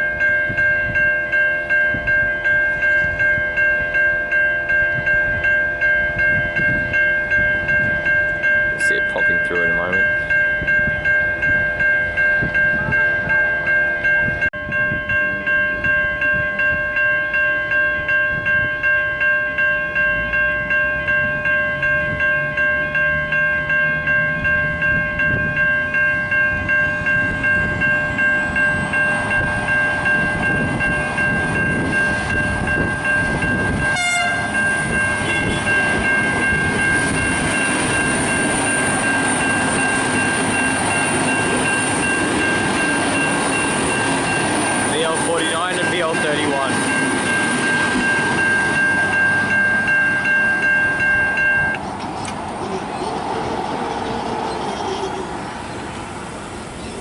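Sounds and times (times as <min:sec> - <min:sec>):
level crossing bells ringing: 0:00.0 - 0:51.8
diesel train passing: 0:00.0 - 0:57.0.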